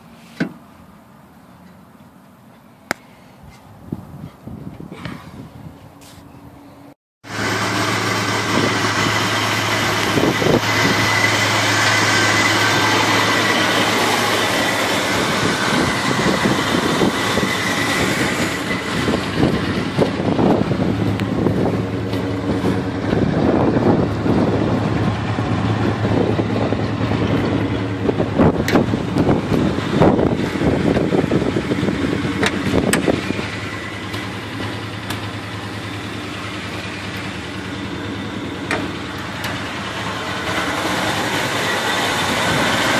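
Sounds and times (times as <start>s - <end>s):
car engine idling: 6.5s - 42.9s.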